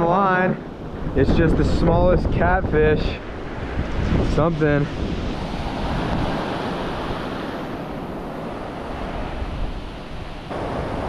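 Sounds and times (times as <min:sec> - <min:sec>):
ocean surf washing onto beach: 0:00.0 - 0:11.0
wind blowing on microphone: 0:00.0 - 0:11.0.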